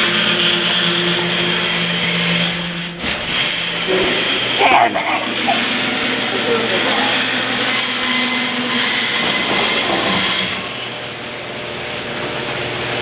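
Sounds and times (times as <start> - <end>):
garage door opener motor humming: 0.0 - 13.0.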